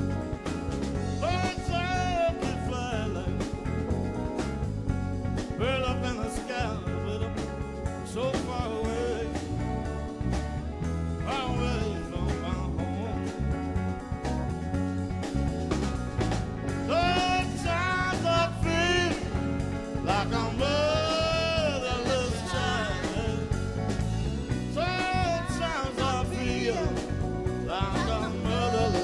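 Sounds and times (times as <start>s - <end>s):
band playing blues: 0.0s - 29.0s
electric guitar lead lines: 0.0s - 29.0s.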